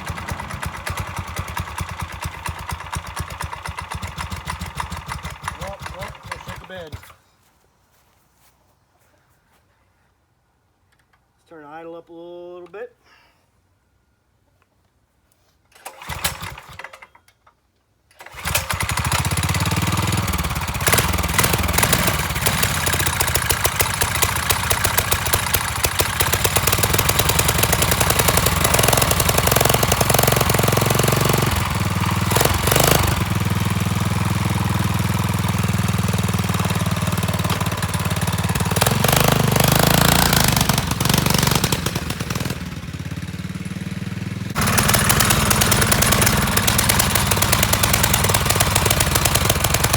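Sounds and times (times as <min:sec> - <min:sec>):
dirt bike engine starting and running: 0:00.0 - 0:07.2, 0:15.7 - 0:49.9.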